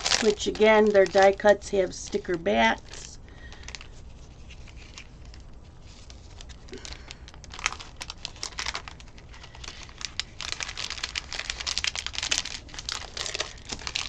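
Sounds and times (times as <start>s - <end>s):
plastic packet crinkling: 0.0s - 14.0s.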